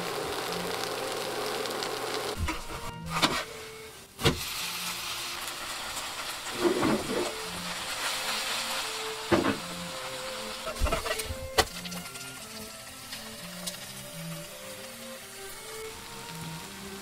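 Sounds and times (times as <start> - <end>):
oil sizzling in frying pan: 0.0 - 17.0.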